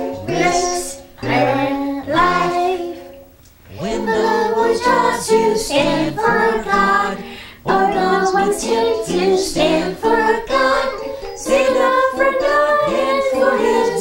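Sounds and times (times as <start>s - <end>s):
woman and girl singing: 0.0s - 14.0s.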